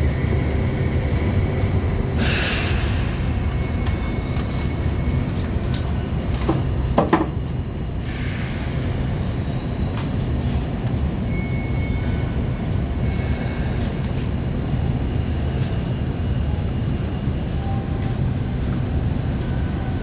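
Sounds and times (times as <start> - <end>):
tram equipment humming: 0.0 - 20.0.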